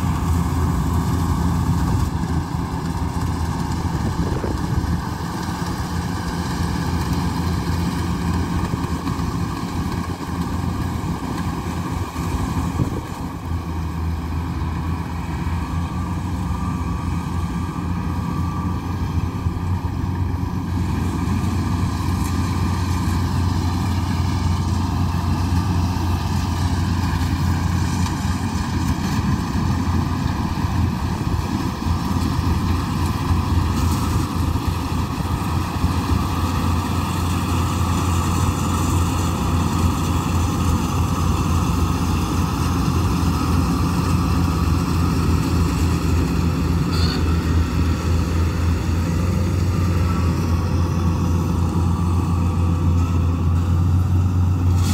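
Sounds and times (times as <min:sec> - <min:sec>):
combine harvester humming: 0:00.0 - 0:54.9.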